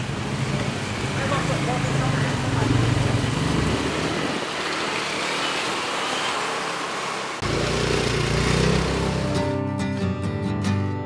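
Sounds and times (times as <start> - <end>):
motorcycle engines running: 0.0 - 9.6
road and traffic noise: 0.0 - 10.1.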